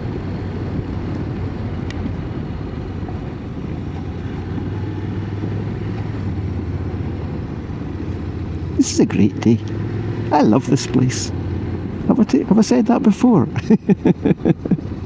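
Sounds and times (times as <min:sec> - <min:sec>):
motorcycle engine running: 0:00.0 - 0:13.5
road and wind noise: 0:00.0 - 0:15.0.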